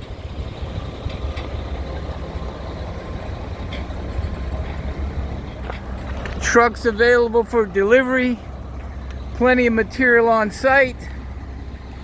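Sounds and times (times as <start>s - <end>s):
diesel equipment rumbling: 0.0s - 12.0s.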